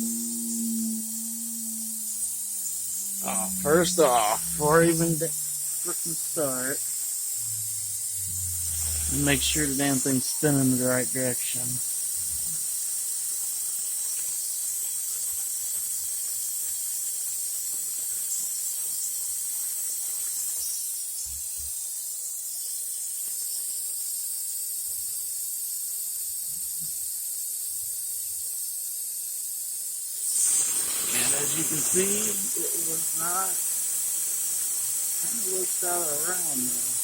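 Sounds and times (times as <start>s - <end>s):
router spindle high-pitched hiss: 0.0s - 37.0s.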